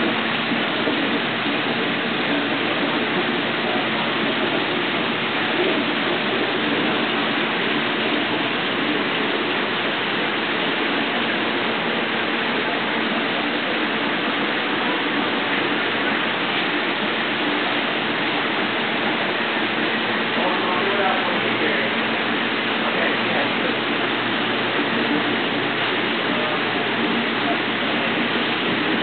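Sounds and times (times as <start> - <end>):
aquarium water rushing: 0.0 - 29.0.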